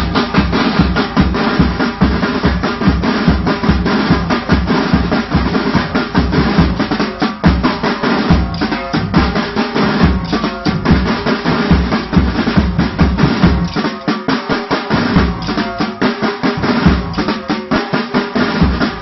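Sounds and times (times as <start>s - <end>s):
rapid snare drumming with rolls: 0.0s - 19.0s
steady bass drum beat: 0.0s - 19.0s.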